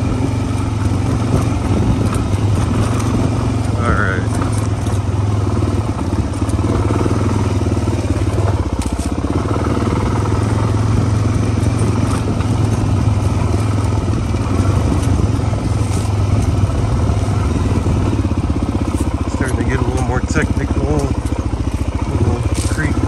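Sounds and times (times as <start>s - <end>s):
motorcycle engine running: 0.0s - 23.0s
clicks and rattles: 0.5s - 6.8s, 7.8s - 9.5s, 10.2s - 23.0s.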